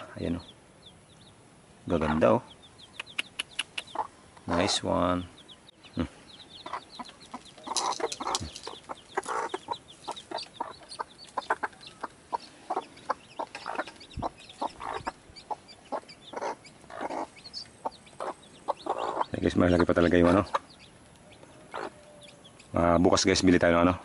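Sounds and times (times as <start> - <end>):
chicks peeping: 0.0 - 24.0
hen clucking: 1.9 - 22.7.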